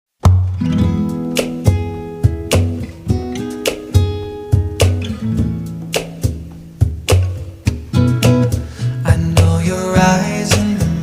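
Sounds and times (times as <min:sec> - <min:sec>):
acoustic guitar strumming: 0:00.2 - 0:11.0.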